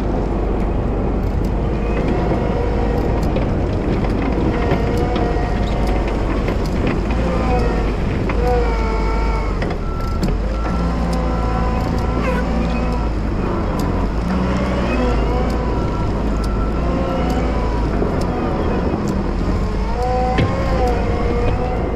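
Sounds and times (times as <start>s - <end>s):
diesel engine running: 0.0s - 21.9s
indistinct voices: 0.0s - 21.9s.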